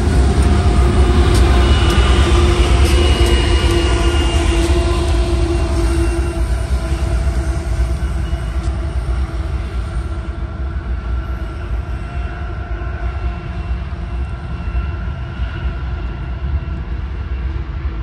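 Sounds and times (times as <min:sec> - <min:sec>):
high whine: 0:00.0 - 0:17.7
freight cars rumbling: 0:00.0 - 0:18.0.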